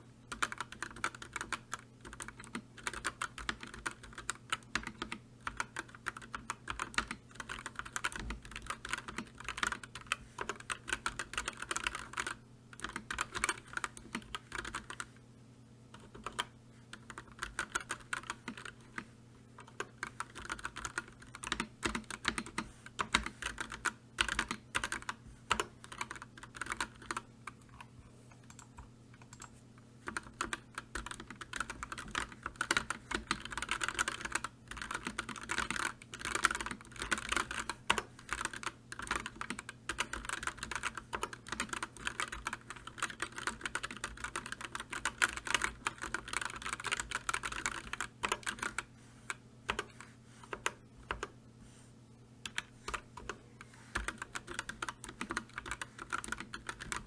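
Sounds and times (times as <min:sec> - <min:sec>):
faint low hum: 0:00.0 - 0:57.0
fast typing on keyboard: 0:00.3 - 0:15.1, 0:16.0 - 0:27.6, 0:28.5 - 0:28.7, 0:29.3 - 0:51.3, 0:52.4 - 0:57.0.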